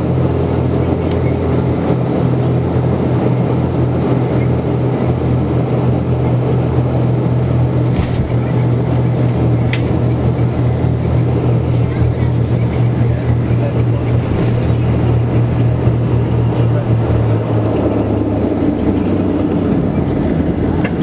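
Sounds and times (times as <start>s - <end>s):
turboprop cabin drone: 0.0s - 21.0s.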